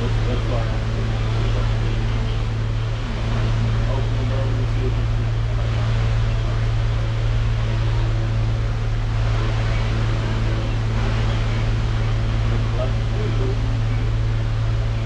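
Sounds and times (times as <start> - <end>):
constant machine hiss: 0.0 - 15.0
machine low hum: 0.0 - 15.0.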